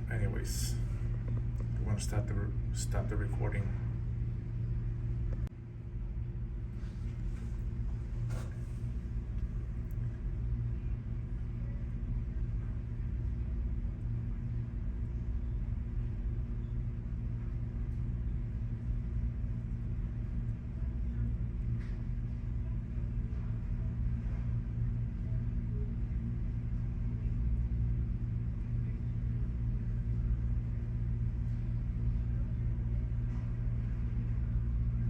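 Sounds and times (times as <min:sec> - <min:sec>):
steady low hum and rumble: 0:00.0 - 0:35.0.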